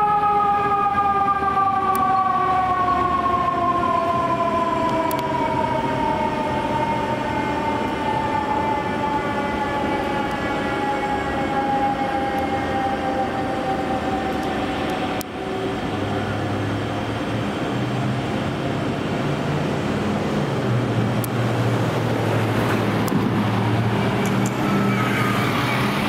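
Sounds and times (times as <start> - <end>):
fire engine siren winding down: 0.0 - 26.0
street traffic noise: 0.0 - 26.0.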